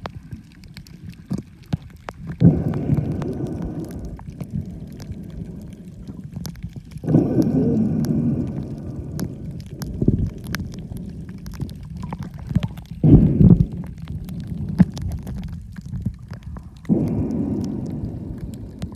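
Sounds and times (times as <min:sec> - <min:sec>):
sharp underwater clicks: 0:00.0 - 0:18.9
underwater churning rumble: 0:00.0 - 0:18.9
gurgling water surge: 0:02.2 - 0:18.9.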